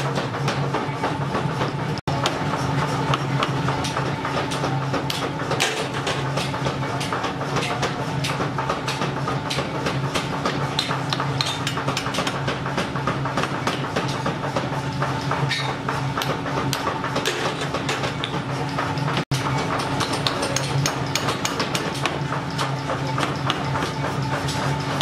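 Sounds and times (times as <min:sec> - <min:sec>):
power hammer pounding steel: 0:00.0 - 0:25.0.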